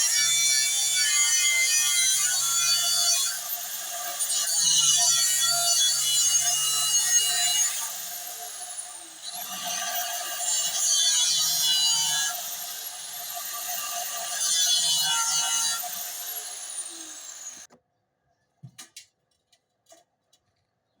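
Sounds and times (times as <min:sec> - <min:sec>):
angle grinder cutting steel: 0:00.0 - 0:17.7.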